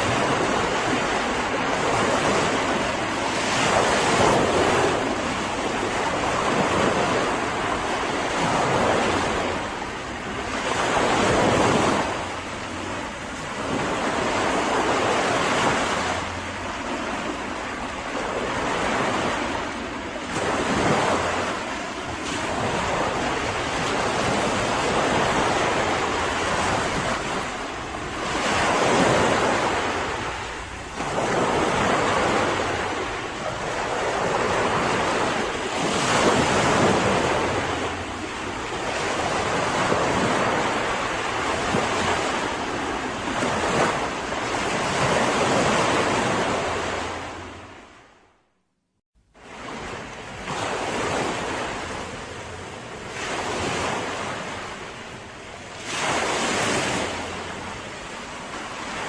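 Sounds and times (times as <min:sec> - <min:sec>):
sea waves breaking on a beach: 0:00.0 - 0:48.4, 0:49.3 - 0:59.0.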